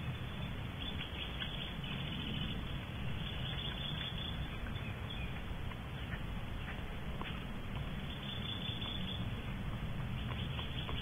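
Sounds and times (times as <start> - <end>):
steady low hum and hiss: 0.0 - 11.0.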